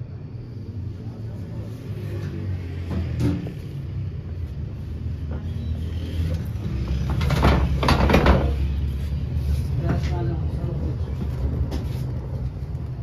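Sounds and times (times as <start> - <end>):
gas burner rumbling: 0.0 - 13.0.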